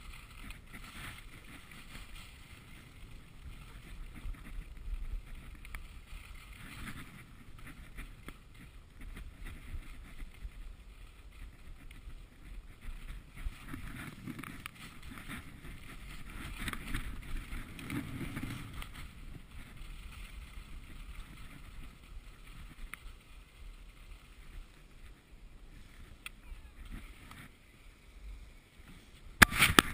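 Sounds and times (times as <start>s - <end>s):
skis hissing over packed snow: 0.0s - 29.9s
wind rumble on microphone: 0.0s - 29.9s.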